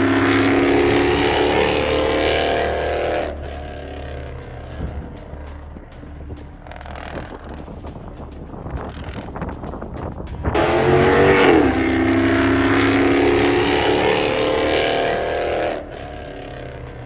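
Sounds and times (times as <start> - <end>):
car engine at high revs: 0.0 - 7.6, 10.5 - 17.0
low rumble: 0.0 - 17.0.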